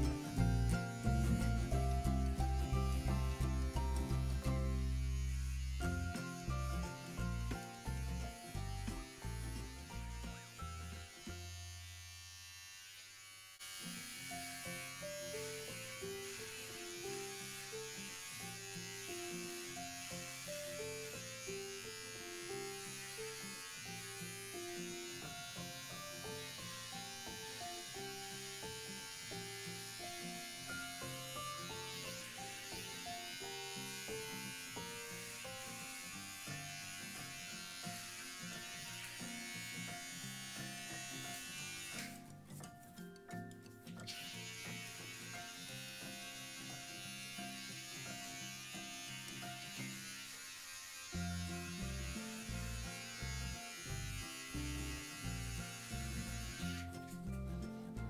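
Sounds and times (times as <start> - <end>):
background music: 0.0 - 12.1, 14.0 - 50.2, 51.0 - 58.0
electric hair clippers buzzing: 0.0 - 42.4, 44.0 - 57.4.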